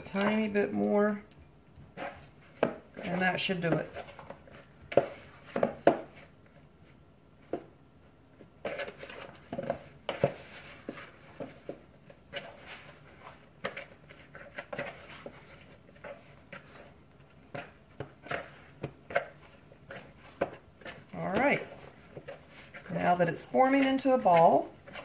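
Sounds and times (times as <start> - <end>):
dough squishing: 0.0 - 25.0.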